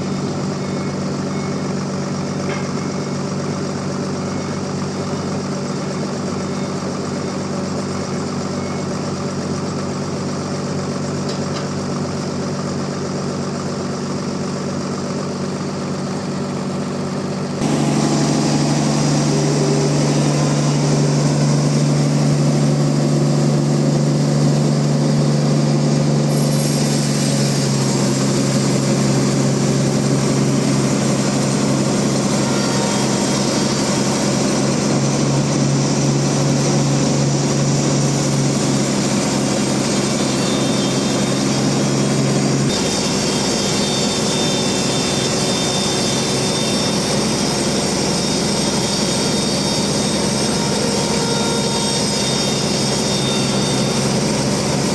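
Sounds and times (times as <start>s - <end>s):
band sawmill cutting log: 0.0s - 54.9s.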